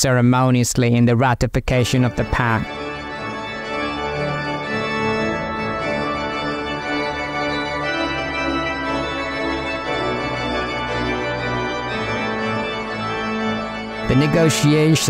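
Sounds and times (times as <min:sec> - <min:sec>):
slow organ-like chords: 0:01.8 - 0:15.0.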